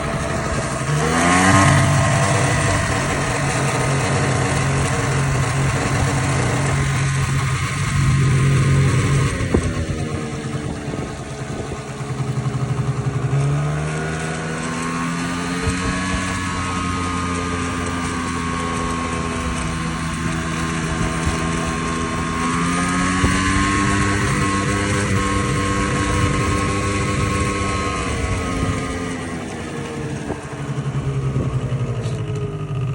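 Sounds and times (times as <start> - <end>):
scooter engine revving: 0.0 - 32.9.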